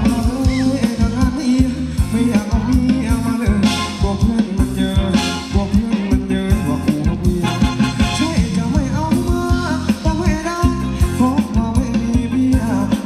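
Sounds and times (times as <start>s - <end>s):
band dance music: 0.0s - 13.0s
person singing: 0.0s - 13.0s.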